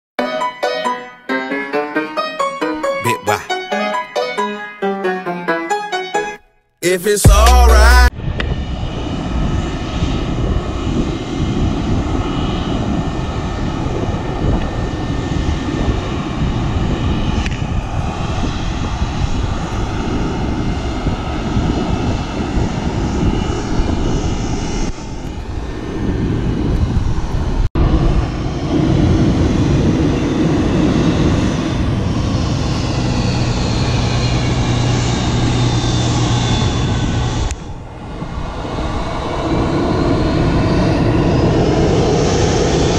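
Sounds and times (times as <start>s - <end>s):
jet engine rumble and whine: 8.1s - 42.9s.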